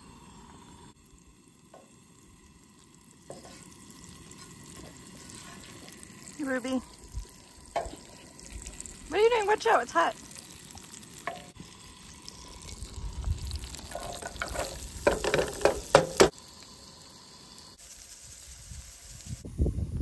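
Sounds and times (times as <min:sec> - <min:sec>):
butter sizzling in frying pan: 0:00.0 - 0:19.4.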